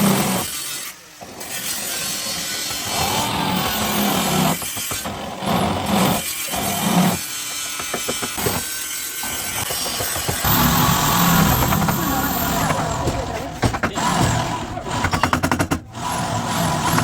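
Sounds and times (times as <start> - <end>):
power tool grinding sheet steel: 0.0 - 17.0.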